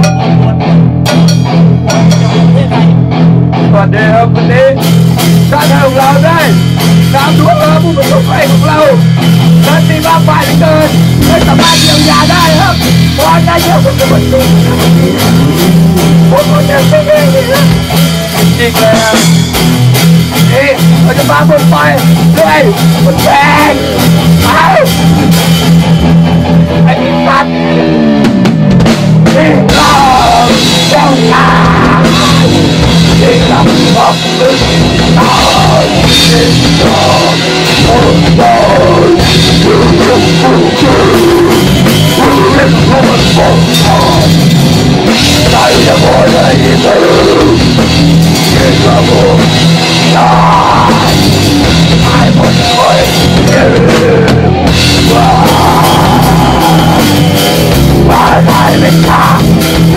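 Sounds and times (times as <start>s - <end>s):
heavy rock music with drums: 0.0s - 59.9s.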